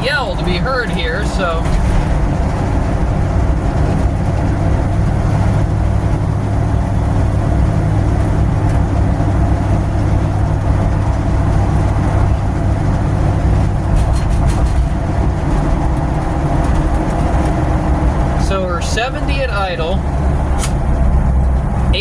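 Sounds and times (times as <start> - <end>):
car engine and road drone: 0.0 - 22.0.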